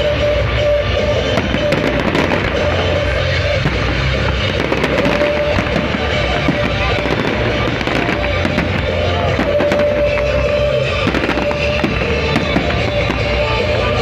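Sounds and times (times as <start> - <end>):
fireworks bursting and crackling: 0.0 - 14.0
music playing: 0.0 - 14.0.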